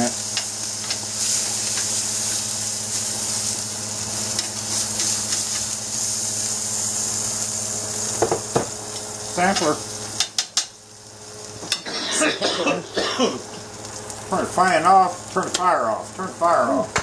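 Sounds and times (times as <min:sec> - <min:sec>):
fat sizzling in grill pan: 0:00.0 - 0:17.0
kitchen fan hum: 0:00.0 - 0:17.0.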